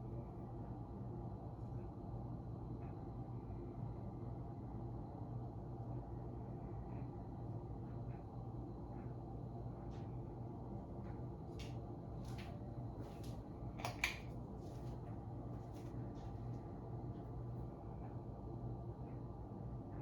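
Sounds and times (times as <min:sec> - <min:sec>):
ceiling fan motor hum: 0:00.0 - 0:20.0.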